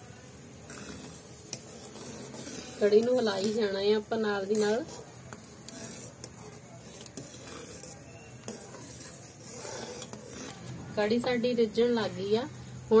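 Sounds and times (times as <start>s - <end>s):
curry bubbling: 0.0s - 13.0s
ladle stirring thick liquid: 0.0s - 13.0s.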